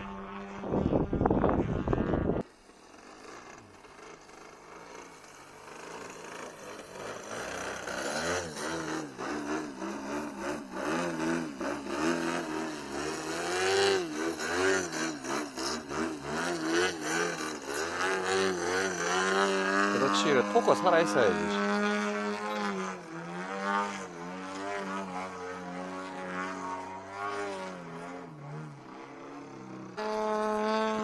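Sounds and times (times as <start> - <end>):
model plane engine: 0.0 - 31.0.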